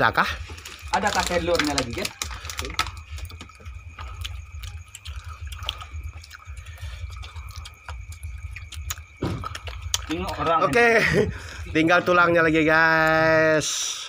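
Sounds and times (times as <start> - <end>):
clicks of people eating: 0.2 - 12.1.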